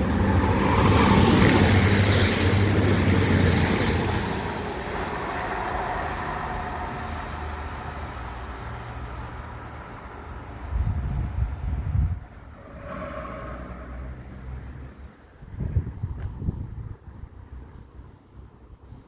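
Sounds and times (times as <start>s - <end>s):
train rumble and rail noise: 0.0s - 18.8s.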